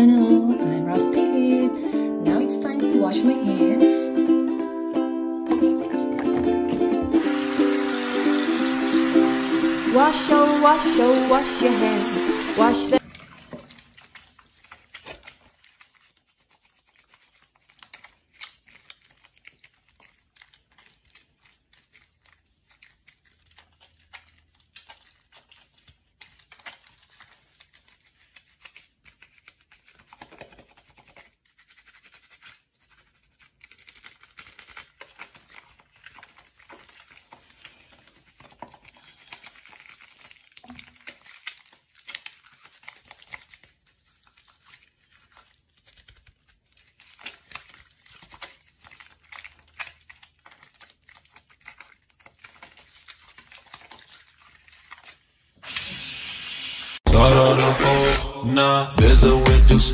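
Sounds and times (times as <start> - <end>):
soapy hands scrubbing: 5.6 - 56.2.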